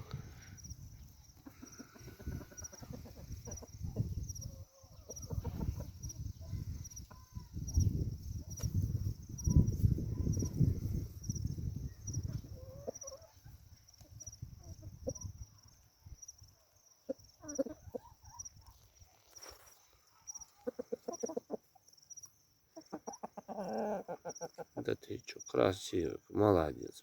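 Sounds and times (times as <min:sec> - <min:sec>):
chickens clucking: 0:00.0 - 0:15.8, 0:17.0 - 0:25.2.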